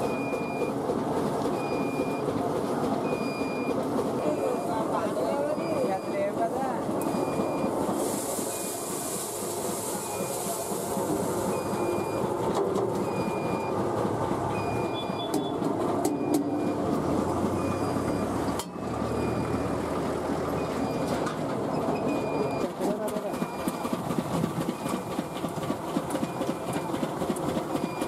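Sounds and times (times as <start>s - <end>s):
machinery clattering rattle: 0.0s - 28.0s.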